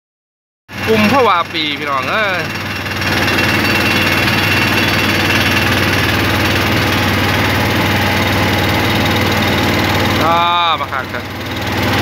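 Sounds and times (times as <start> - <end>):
boat engine droning: 0.7 - 12.0.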